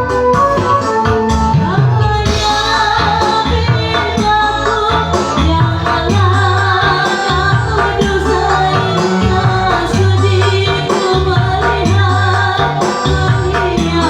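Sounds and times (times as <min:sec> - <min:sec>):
electronic keyboard with beat: 0:00.0 - 0:14.0
woman singing pop song: 0:01.2 - 0:14.0.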